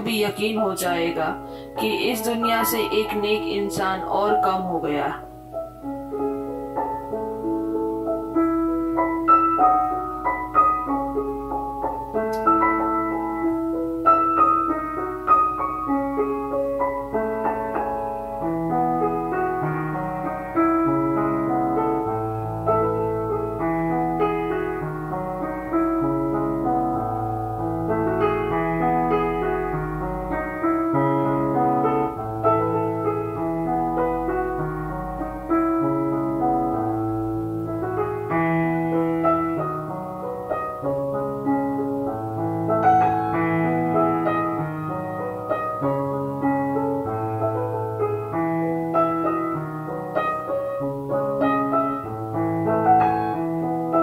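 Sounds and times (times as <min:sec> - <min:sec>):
slow gentle piano music: 0:00.0 - 0:54.0.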